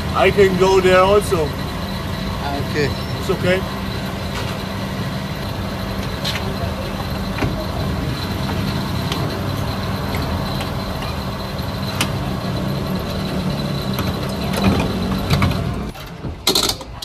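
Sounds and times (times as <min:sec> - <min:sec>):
fuel pump humming: 0:00.0 - 0:16.0.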